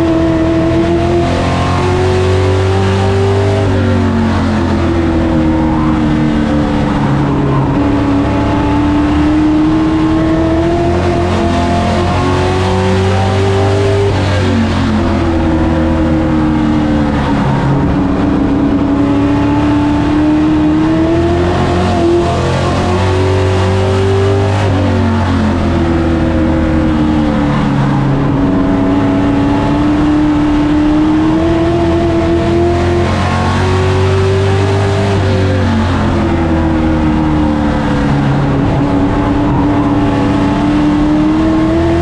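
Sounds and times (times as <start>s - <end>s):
race truck engine accelerating: 0.0s - 42.0s.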